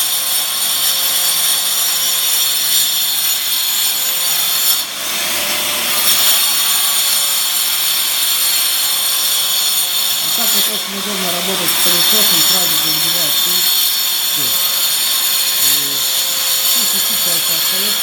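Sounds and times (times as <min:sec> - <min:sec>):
power cutter grinding concrete: 0:00.0 - 0:18.0
vacuum cleaner: 0:00.0 - 0:18.0.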